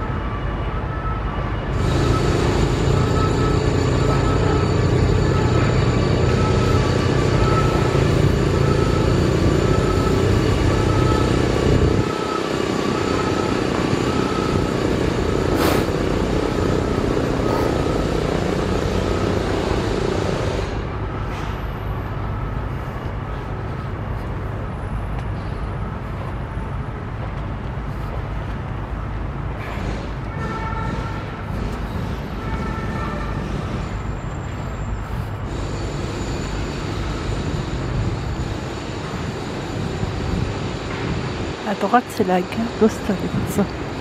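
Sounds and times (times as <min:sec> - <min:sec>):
city road traffic: 0:00.0 - 0:44.0.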